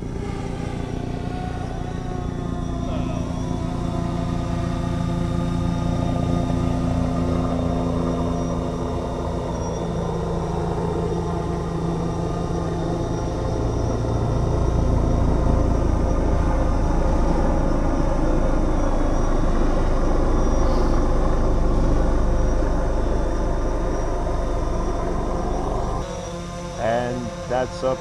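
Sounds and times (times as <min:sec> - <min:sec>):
motor running with held tones: 0:00.0 - 0:28.0.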